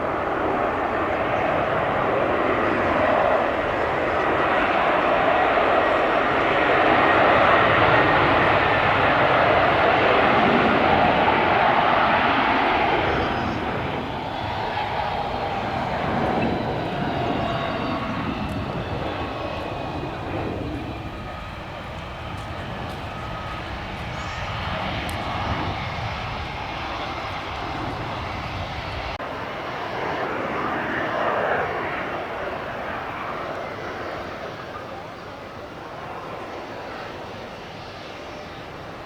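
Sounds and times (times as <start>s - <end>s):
jet airliner engines passing: 0.0s - 39.0s.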